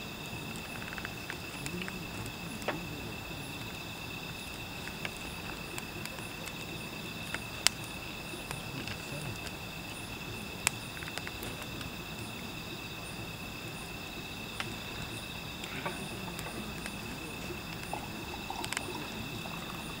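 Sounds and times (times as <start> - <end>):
fire popping: 0.0 - 20.0
firewood crackling: 0.0 - 20.0
night insects chirring: 0.0 - 20.0.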